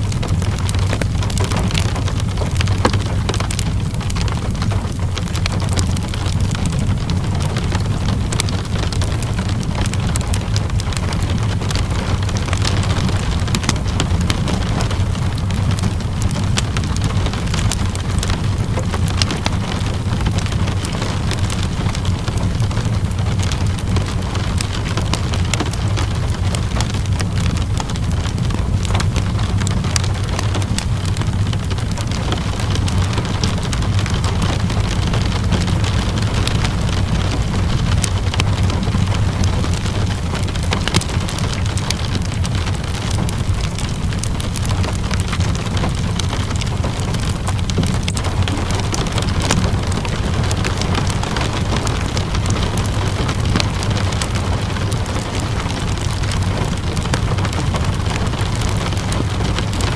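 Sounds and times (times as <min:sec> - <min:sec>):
steady rainfall: 0:00.0 - 0:59.9
wood fire crackling: 0:00.0 - 0:59.9.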